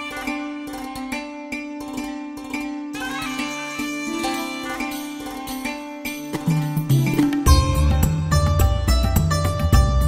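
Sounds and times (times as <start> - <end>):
plucked string instrument music: 0.0 - 10.0.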